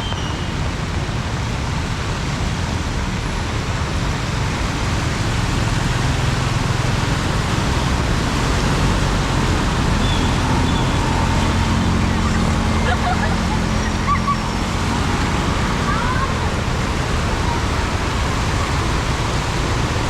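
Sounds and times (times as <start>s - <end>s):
heavy rainstorm: 0.0s - 20.0s
traffic on flooded street: 0.0s - 20.0s.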